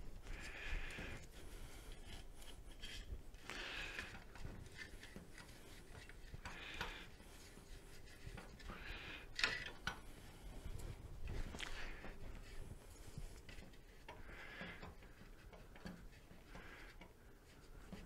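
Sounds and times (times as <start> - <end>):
rubbing and wiping scooter parts: 0.0 - 18.0.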